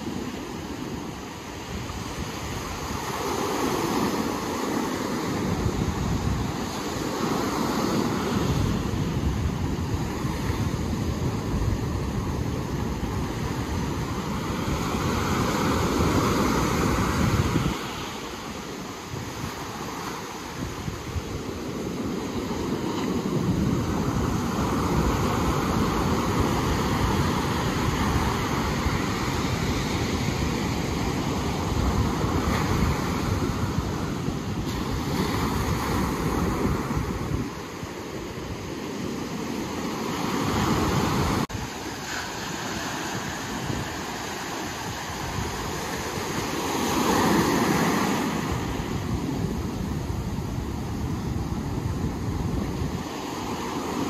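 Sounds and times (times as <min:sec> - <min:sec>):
ocean surf washing in: 0:00.0 - 0:54.0
wind rumbling on microphone: 0:00.0 - 0:54.0.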